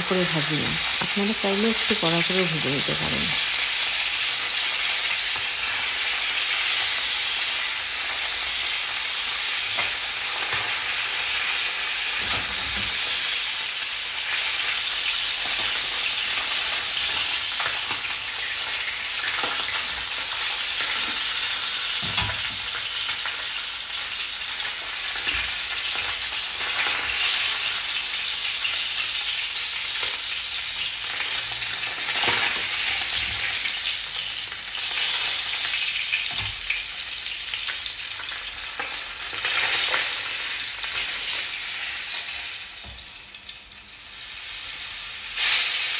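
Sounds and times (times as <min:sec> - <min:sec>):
fish sizzling in hot oil: 0:00.0 - 0:45.9.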